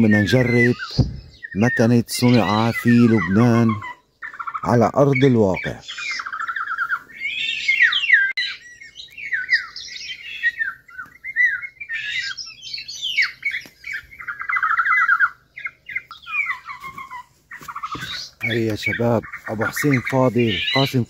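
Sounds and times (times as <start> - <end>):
electronic bird calls: 0.0 - 21.0.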